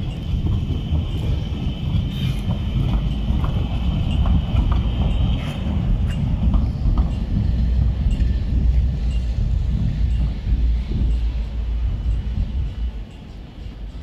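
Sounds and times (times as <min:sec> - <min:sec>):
tram rumble: 0:00.0 - 0:14.0.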